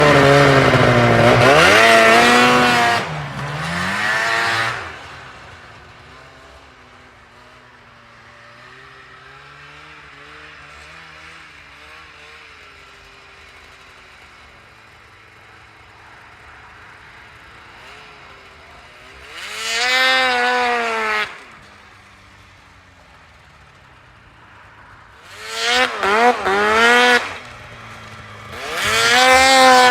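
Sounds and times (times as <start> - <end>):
snowmobile engine revving: 0.0 - 29.9.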